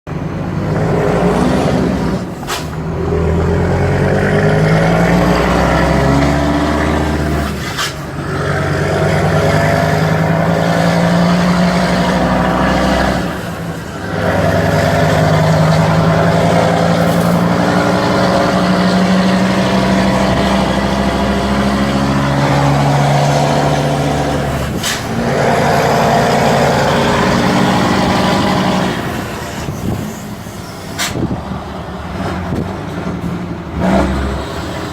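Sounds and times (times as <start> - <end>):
diesel truck engine accelerating: 0.1 - 34.9.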